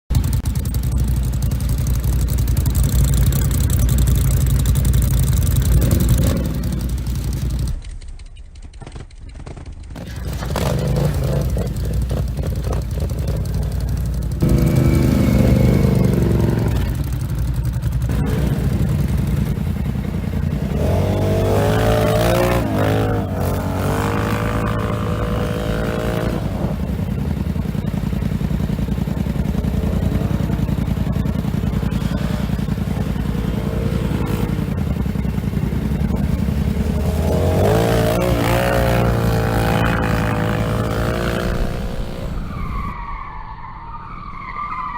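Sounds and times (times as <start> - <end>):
atv engines revving: 0.1 - 43.0.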